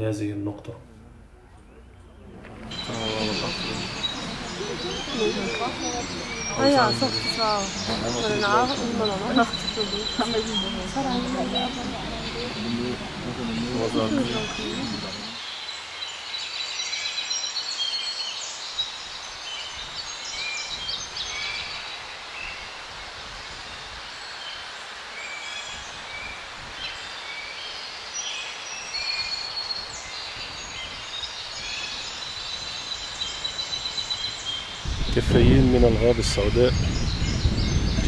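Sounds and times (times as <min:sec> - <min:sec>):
birds chirping and singing: 0:01.5 - 0:23.9, 0:25.6 - 0:38.0.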